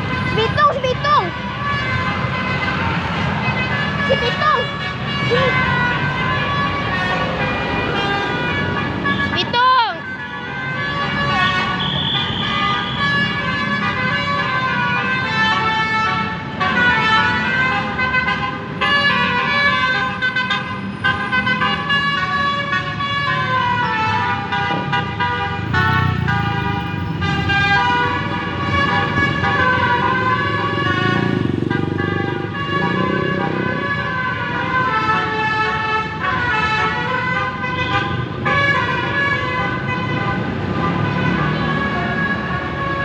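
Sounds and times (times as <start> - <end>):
bus horn playing a melody: 3.4 - 43.0.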